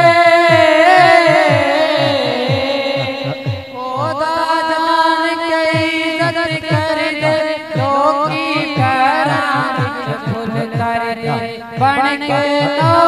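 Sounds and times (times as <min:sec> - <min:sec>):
low thudding beat: 0:00.0 - 0:04.7, 0:05.6 - 0:13.0
man singing through a microphone: 0:00.0 - 0:13.0.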